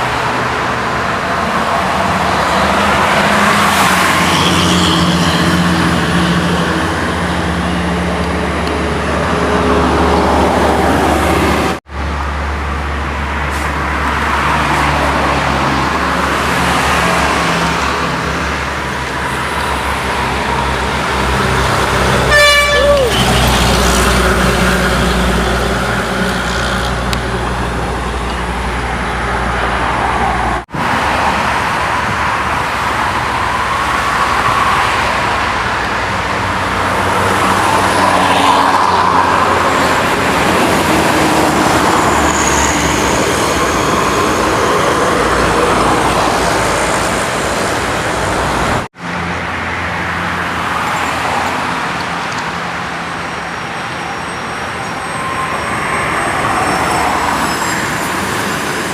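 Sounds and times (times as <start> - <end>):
traffic driving past: 0.0 - 58.9.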